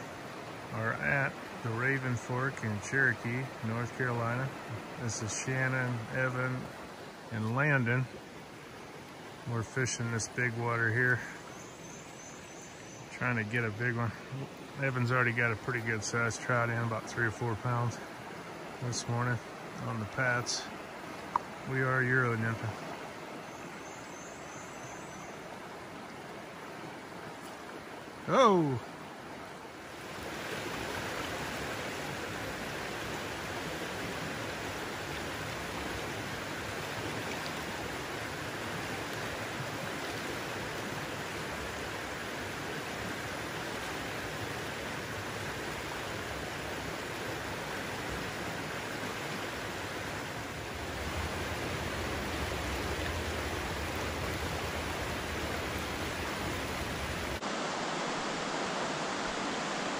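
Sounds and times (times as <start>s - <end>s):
fast-flowing river water: 0.0s - 59.9s.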